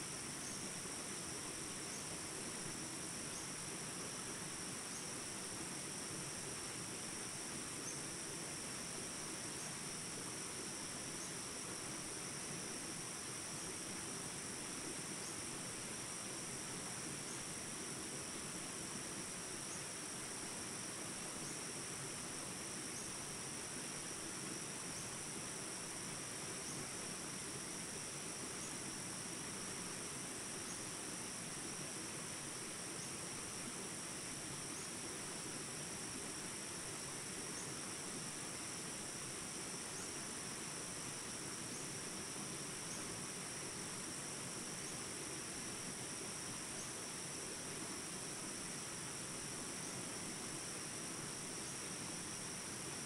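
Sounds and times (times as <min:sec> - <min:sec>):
insects buzzing high-pitched: 0:00.0 - 0:53.0
soft even hiss: 0:00.0 - 0:53.0.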